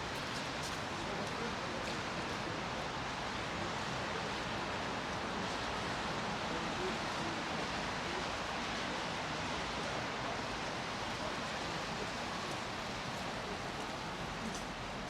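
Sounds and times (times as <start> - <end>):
city street noise: 0.0 - 15.0.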